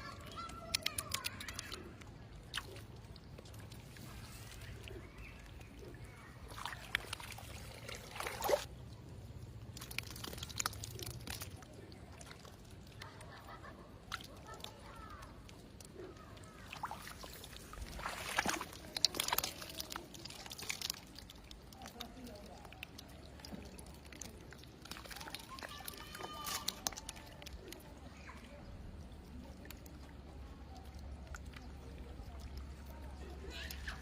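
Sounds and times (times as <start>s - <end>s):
shallow water splashing: 0.0s - 34.0s.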